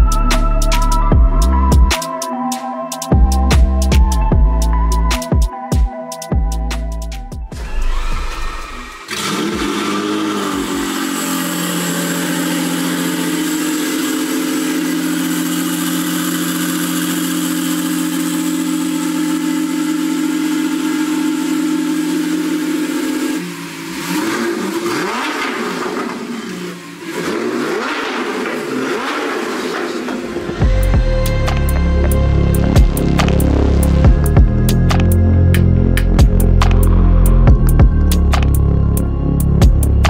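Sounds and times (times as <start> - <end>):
car engine starting and idling: 6.7 - 40.0
engine revving: 7.5 - 40.0.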